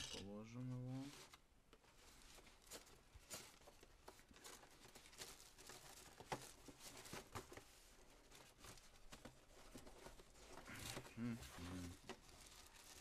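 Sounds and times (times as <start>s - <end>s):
packaging rustling: 0.9s - 13.0s.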